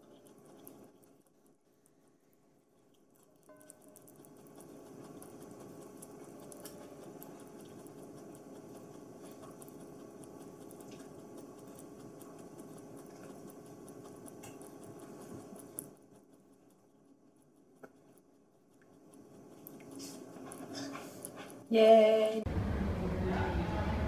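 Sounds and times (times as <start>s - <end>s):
guinea pig munching: 0.0s - 22.2s.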